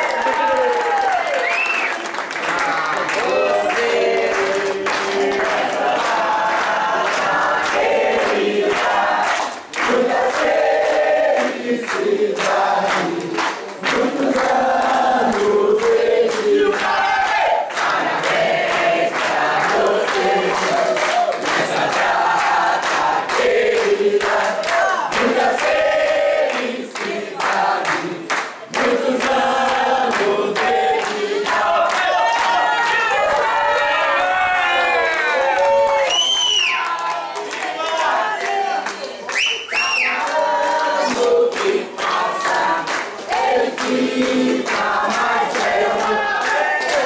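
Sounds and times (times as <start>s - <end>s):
handclaps keeping time: 0.0s - 33.4s, 36.6s - 47.0s
group singing in chorus: 2.4s - 33.7s, 36.7s - 47.0s.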